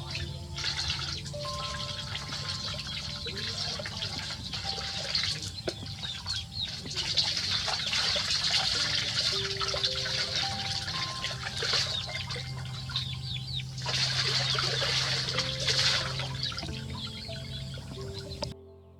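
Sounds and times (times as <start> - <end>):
water running and trickling: 0.0 - 18.5
steady low hum: 0.0 - 18.6.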